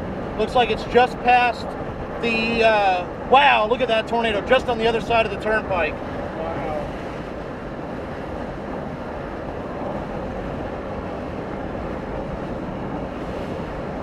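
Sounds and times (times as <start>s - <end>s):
road and engine noise inside car: 0.0s - 14.0s.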